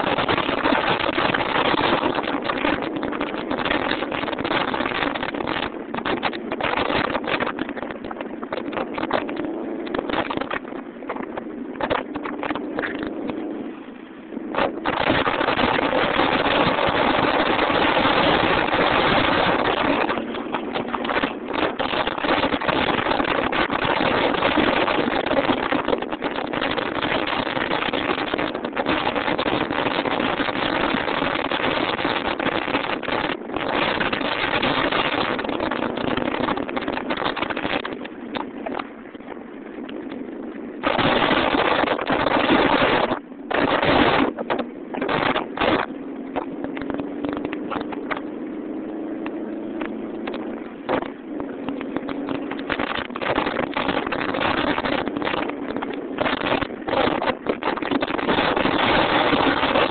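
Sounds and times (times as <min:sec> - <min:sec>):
car engine at speed: 0:00.0 - 0:59.9
wind rushing on microphone: 0:00.0 - 0:59.9.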